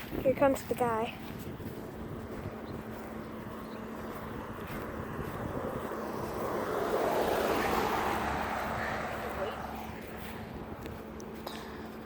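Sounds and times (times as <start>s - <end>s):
vehicle approaching: 0.0s - 12.0s.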